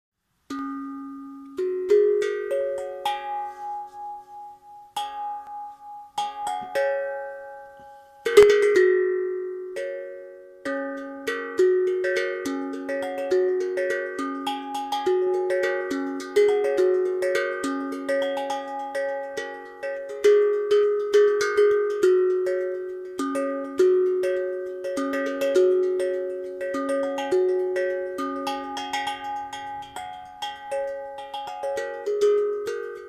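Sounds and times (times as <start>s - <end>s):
steel tongue drum notes: 0.4s - 33.0s.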